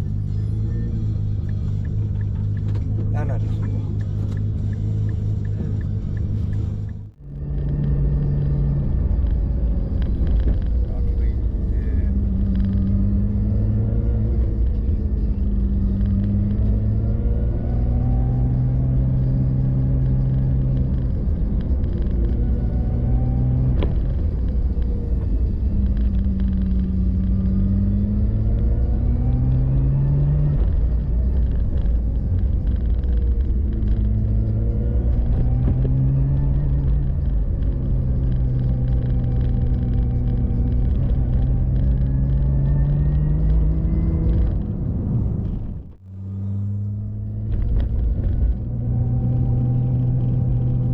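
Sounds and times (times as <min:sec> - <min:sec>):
car engine accelerating: 0:00.0 - 0:50.9
road rumble: 0:00.0 - 0:50.9.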